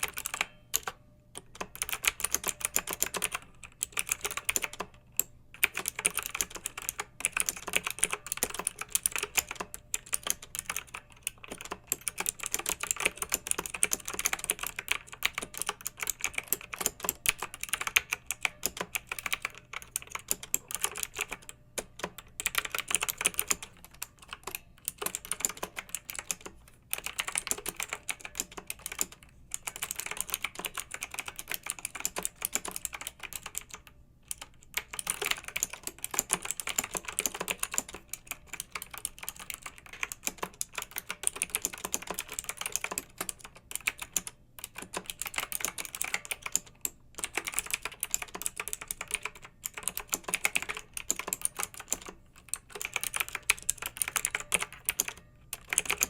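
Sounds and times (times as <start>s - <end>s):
mechanical keyboard typing: 0.0s - 56.0s.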